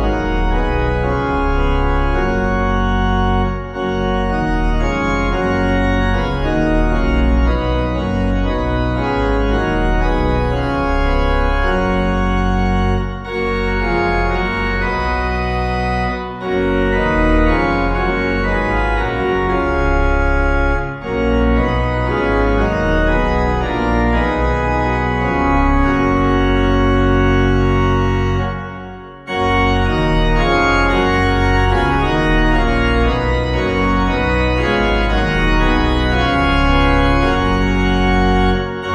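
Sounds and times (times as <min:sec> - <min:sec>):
organ playing sustained chords: 0:00.0 - 0:38.9.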